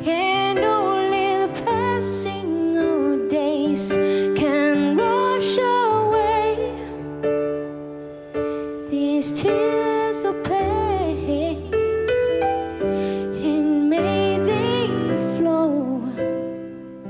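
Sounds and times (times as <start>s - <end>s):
woman singing: 0.0s - 7.1s, 8.8s - 12.1s, 13.2s - 16.6s
held keyboard chords: 0.0s - 17.0s.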